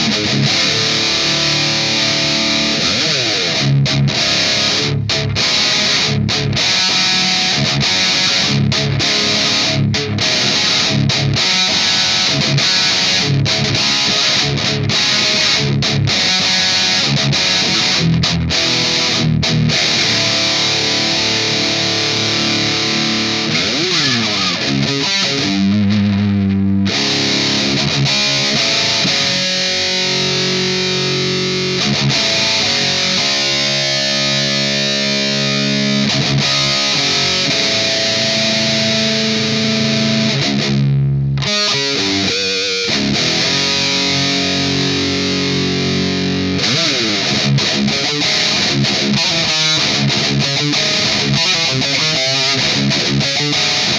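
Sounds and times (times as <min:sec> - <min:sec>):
distorted electric guitar riff: 0:00.0 - 0:53.9.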